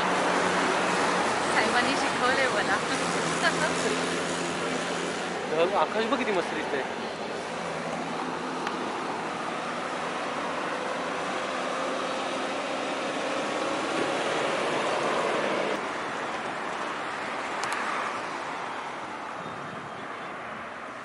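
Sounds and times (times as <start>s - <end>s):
highway traffic rushing past: 0.0s - 21.0s.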